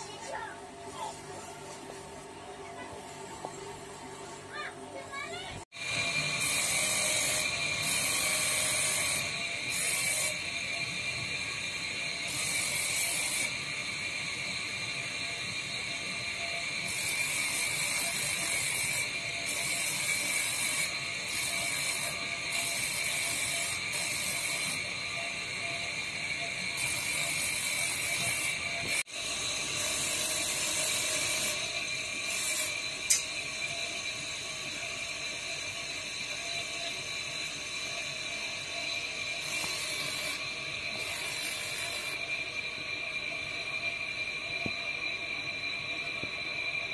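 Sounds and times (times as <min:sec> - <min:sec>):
grinding machine whine: 0:00.0 - 0:46.9
stone grinding hiss: 0:05.8 - 0:46.9.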